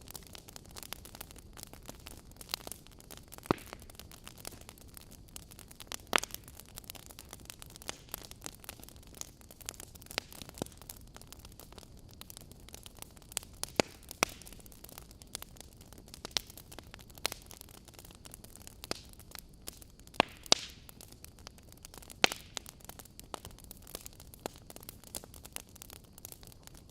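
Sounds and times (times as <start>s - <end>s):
fire crackling and popping: 0.0s - 26.9s
soft steady hiss: 0.0s - 26.9s.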